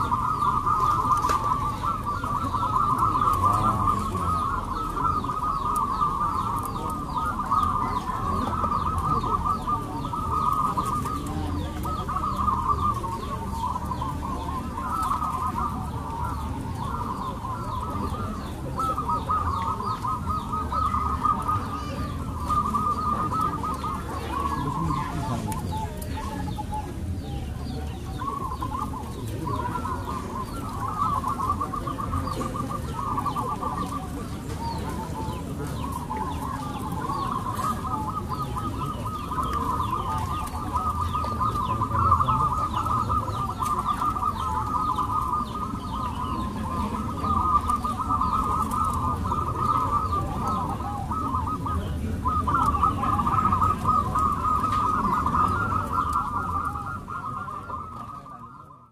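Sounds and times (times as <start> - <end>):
doves cooing: 0.0 - 58.9.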